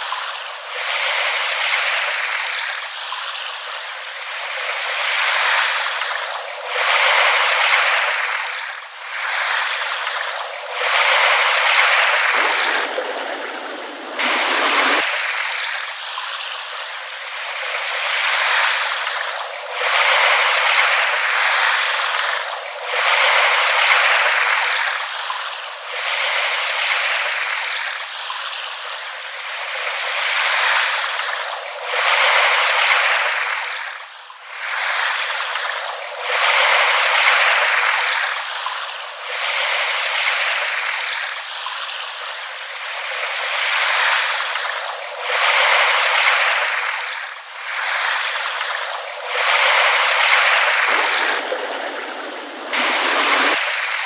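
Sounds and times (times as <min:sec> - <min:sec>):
small waves lapping: 0:00.0 - 0:54.0.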